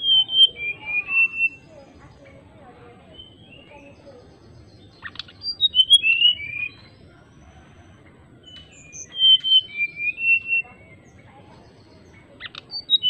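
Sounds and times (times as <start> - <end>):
bird singing whistled phrases: 0.0 - 2.2, 3.1 - 7.0, 8.4 - 13.0.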